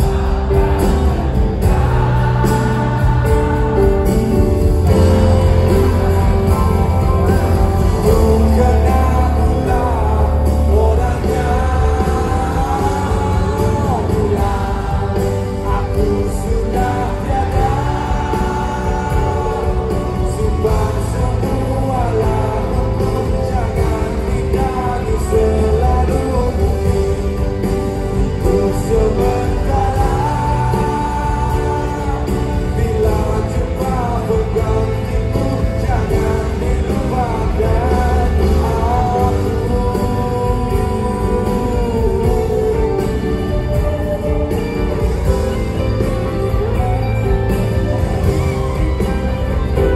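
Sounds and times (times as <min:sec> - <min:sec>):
acoustic guitar: 0:00.0 - 0:49.9
heavy bass: 0:00.0 - 0:49.9
person singing: 0:00.0 - 0:49.9.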